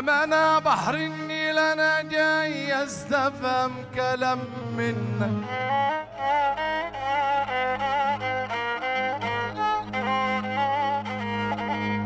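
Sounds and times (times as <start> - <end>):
bowed fiddle melody: 0.0 - 12.0.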